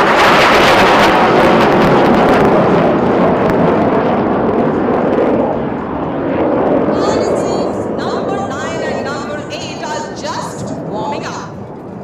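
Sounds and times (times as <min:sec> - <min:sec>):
jet flying past low: 0:00.0 - 0:12.0.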